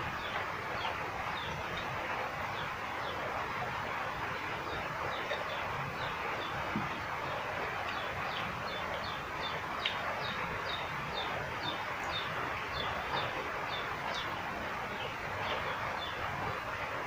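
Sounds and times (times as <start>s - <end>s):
outdoor background hiss: 0.0s - 17.0s
bird chirping: 0.1s - 1.9s, 4.6s - 16.6s.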